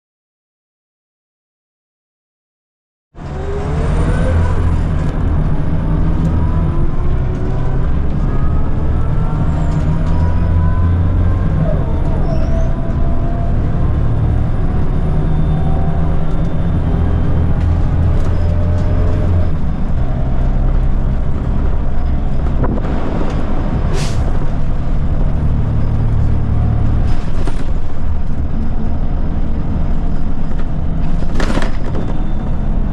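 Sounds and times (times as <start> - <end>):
bus engine under load: 3.2 - 32.9
gearbox whining: 3.2 - 32.9.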